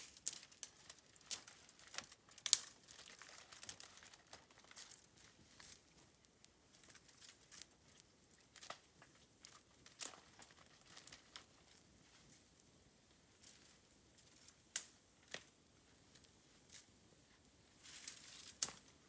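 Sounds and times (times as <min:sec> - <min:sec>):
bamboo fire crackling and popping: 0:00.0 - 0:19.0.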